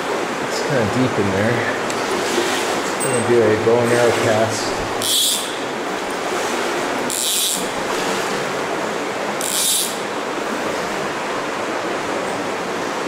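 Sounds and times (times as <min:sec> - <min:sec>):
water rushing through metal culvert: 0:00.0 - 0:13.0.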